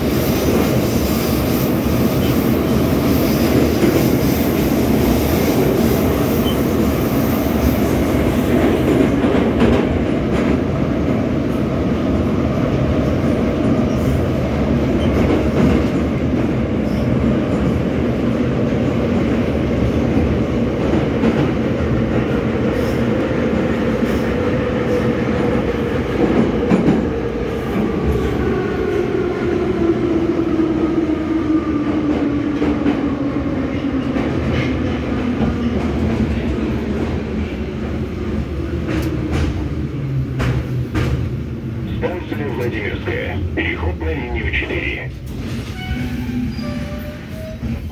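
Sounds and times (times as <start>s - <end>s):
train rumble in tunnel: 0.0s - 47.9s.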